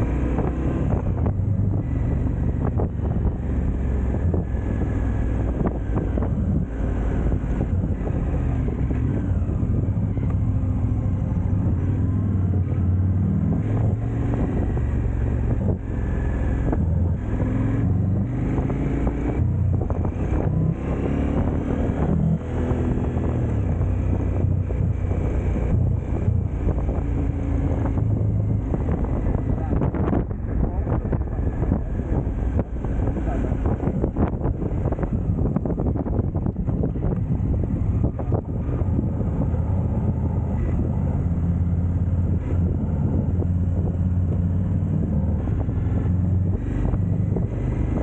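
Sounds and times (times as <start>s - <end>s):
motorcycle engine running: 0.0s - 48.0s
wind noise on microphone: 0.0s - 48.0s.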